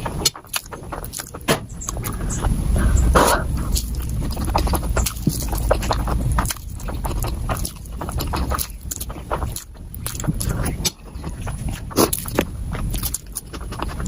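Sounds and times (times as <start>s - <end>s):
low rumble: 0.0s - 14.0s
sped-up chewing and crunching: 0.0s - 14.0s.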